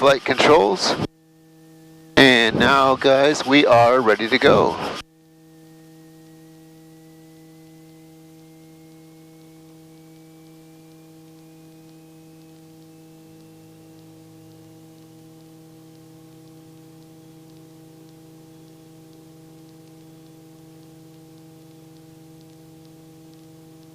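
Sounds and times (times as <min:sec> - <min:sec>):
electrical hum: 0:00.0 - 0:23.9
faint whine rising in pitch: 0:00.0 - 0:23.9.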